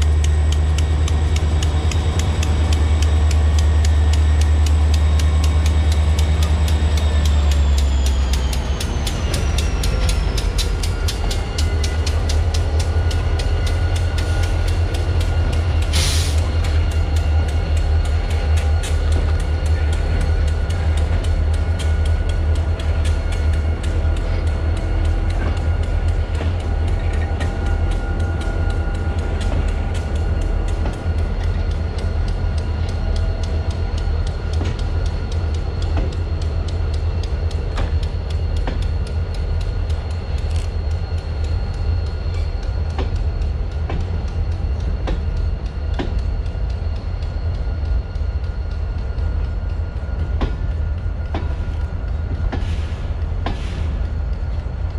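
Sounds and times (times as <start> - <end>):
freight train rumbling: 0.0 - 54.9
wheels clicking over rail joints: 0.0 - 54.9.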